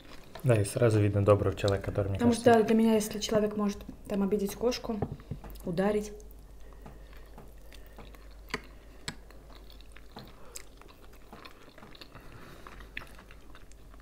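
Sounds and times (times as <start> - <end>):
people chewing food: 0.0 - 3.1, 5.0 - 14.0.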